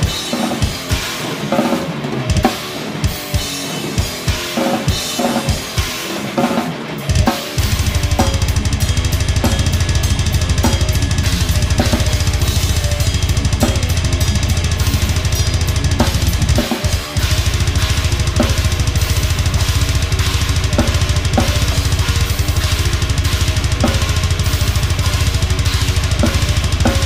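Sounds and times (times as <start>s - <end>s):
acoustic drum kit played hard: 0.0s - 27.0s
fast bass drum strokes: 0.0s - 27.0s.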